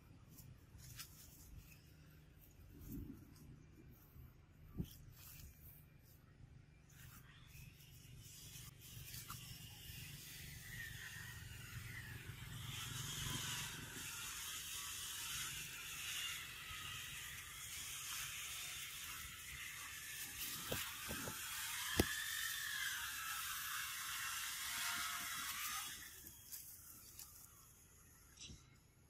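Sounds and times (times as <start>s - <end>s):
outdoor background buzz: 0.0s - 29.0s.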